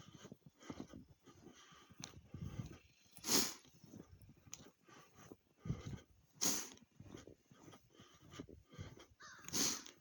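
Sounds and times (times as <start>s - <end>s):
footsteps crunching through snow: 0.0s - 10.0s.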